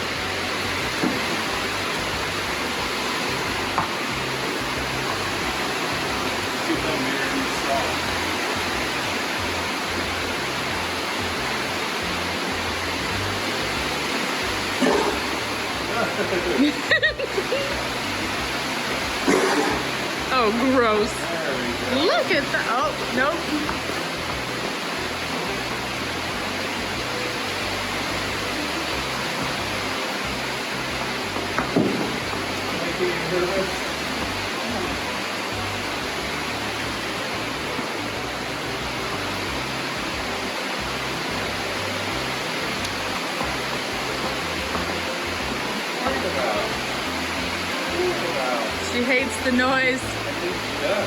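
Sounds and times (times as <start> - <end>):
heavy rain on a roof: 0.0 - 51.0.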